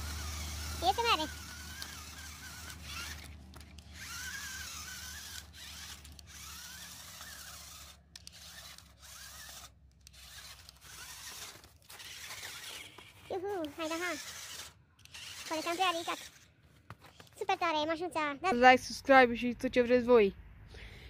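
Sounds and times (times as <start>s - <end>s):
toy truck motor whining: 0.0s - 18.0s.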